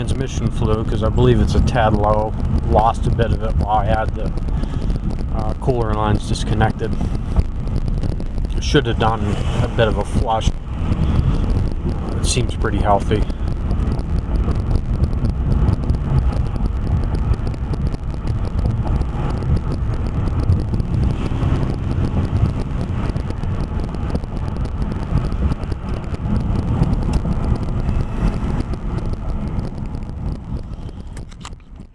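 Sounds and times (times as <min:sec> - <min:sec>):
car engine and road rumble: 0:00.0 - 0:31.9
wind on microphone: 0:00.0 - 0:31.9.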